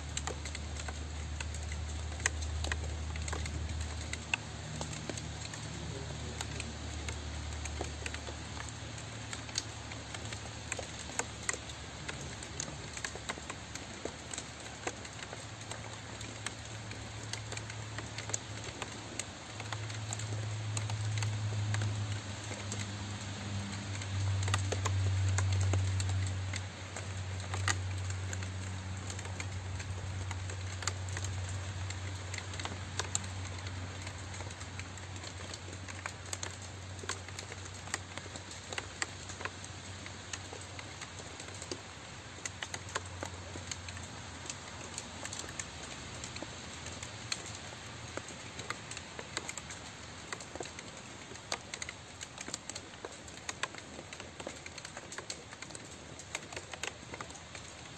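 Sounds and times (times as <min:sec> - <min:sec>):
rain falling: 0:00.0 - 0:57.9
raindrops ticking: 0:00.0 - 0:57.9.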